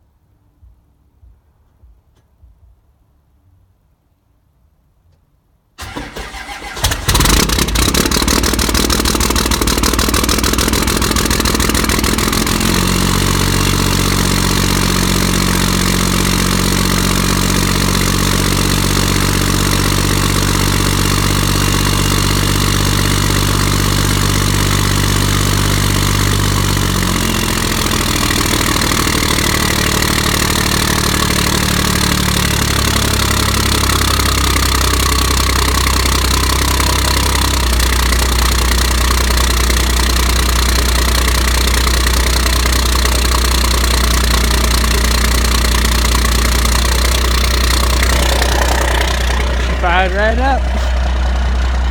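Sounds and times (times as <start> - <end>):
diesel engine idling: 5.8 - 51.9.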